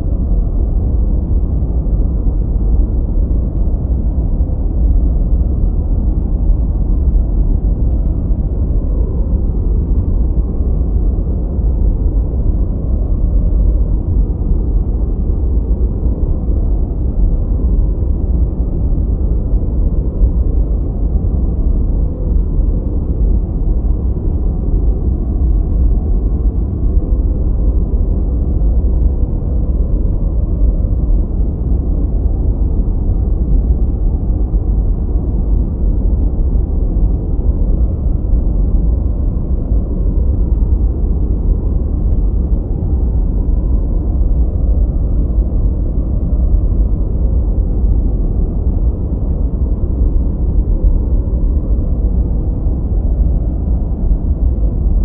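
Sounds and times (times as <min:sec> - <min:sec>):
deep even noise rumble: 0:00.0 - 0:55.0.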